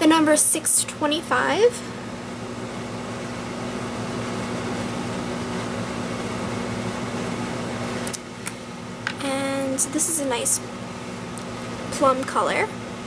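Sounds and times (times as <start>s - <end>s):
fan hum with hiss: 0.0s - 13.0s.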